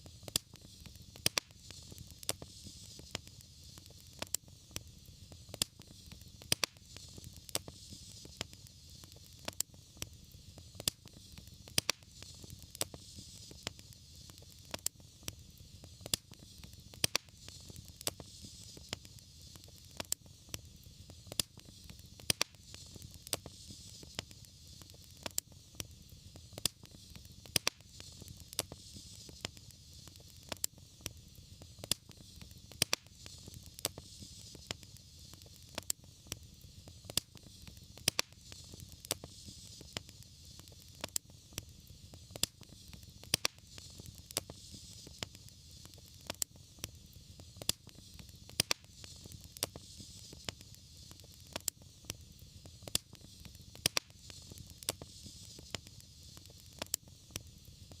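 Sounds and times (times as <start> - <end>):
soft hiss and low rumble: 0.0 - 58.0
wood fire crackling and popping: 0.0 - 58.0.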